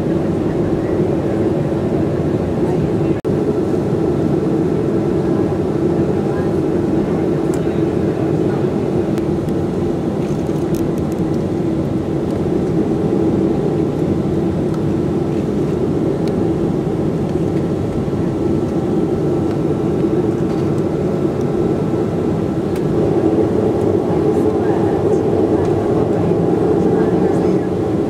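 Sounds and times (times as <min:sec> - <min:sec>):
jet engine cabin drone: 0:00.0 - 0:28.0.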